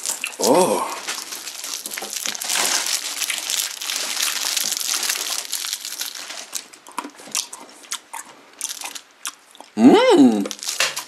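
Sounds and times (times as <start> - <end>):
plastic wrappers crinkling: 0.0 - 8.0, 8.6 - 9.0, 10.4 - 11.0.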